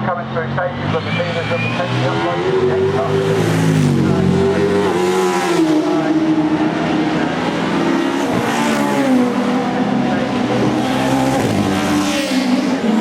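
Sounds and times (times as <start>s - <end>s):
racing car engine: 0.0s - 13.0s.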